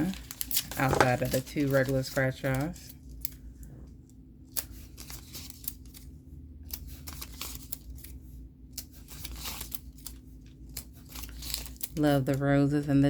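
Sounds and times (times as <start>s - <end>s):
sticker paper rustling and clicking: 0.0s - 3.4s, 4.5s - 12.6s.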